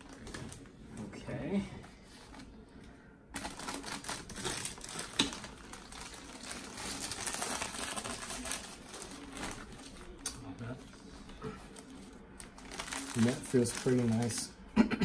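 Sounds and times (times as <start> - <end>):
plastic wrap crinkling: 0.0 - 1.4, 3.4 - 14.6.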